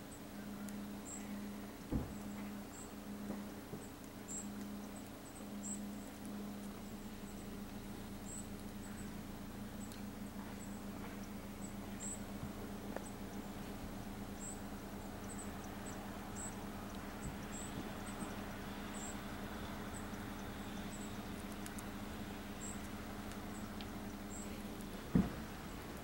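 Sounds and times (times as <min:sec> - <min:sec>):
steady low hum: 0:00.0 - 0:26.0
squirrel chewing cone: 0:00.1 - 0:26.0.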